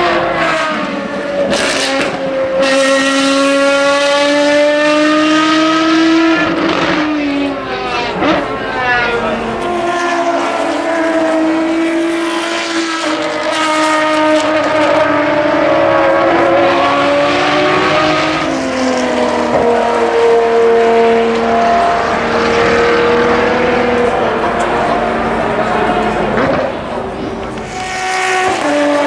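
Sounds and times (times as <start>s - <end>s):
race car engines running hard: 0.0s - 29.0s.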